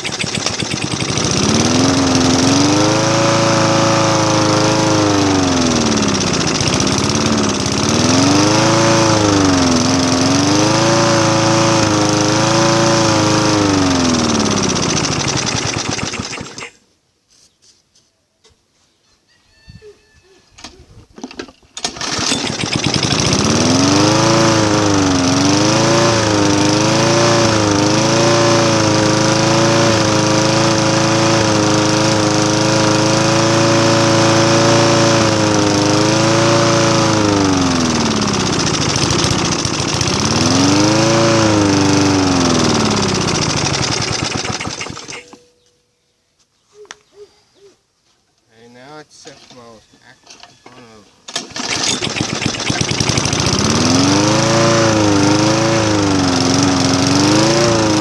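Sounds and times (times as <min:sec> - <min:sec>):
lawn mower engine running: 0:00.0 - 0:16.8, 0:21.2 - 0:45.6, 0:51.3 - 0:58.0.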